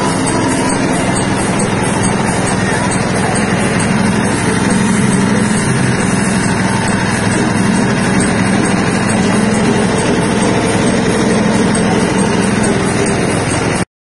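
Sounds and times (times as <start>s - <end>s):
machine running with mechanical drone: 0.0s - 13.9s.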